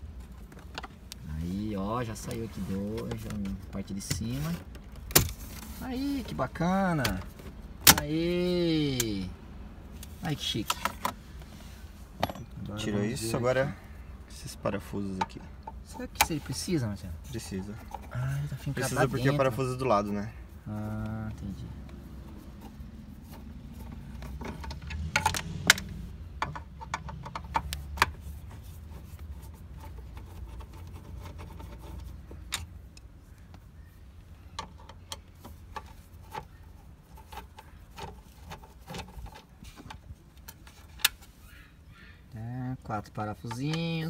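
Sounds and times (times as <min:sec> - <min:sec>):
low steady rumble: 0:00.0 - 0:41.6.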